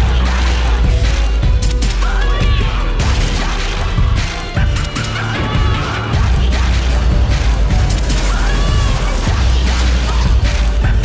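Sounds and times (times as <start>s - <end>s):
music with heavy bass: 0.0s - 11.0s.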